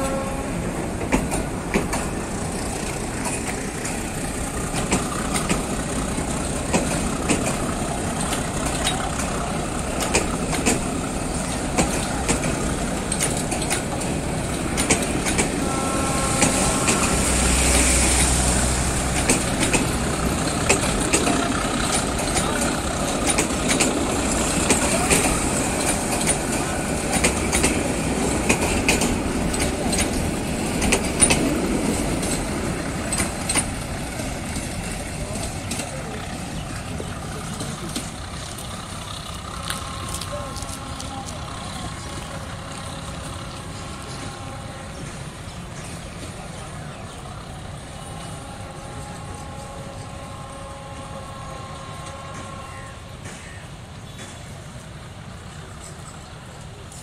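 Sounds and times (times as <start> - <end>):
train wheels clicking over rail joints: 0.0 - 51.1, 51.8 - 57.0.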